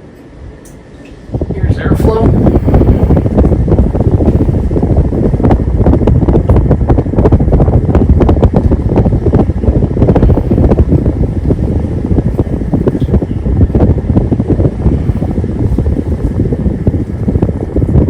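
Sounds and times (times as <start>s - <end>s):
fan wind noise on microphone: 0.0s - 18.0s.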